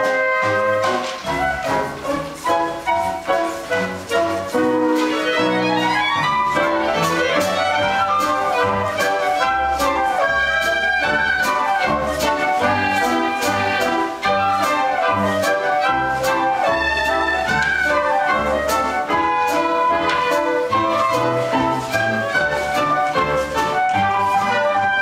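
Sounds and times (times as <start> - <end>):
lively orchestral music: 0.0 - 25.0.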